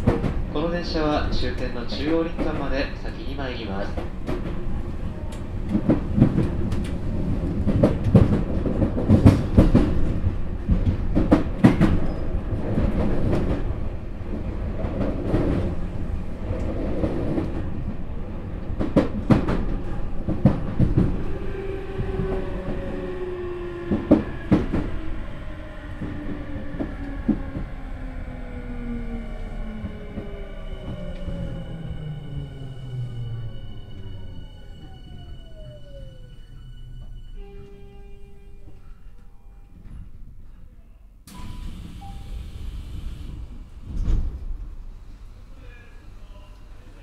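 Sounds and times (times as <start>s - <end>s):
low train running rumble: 0.0s - 47.0s.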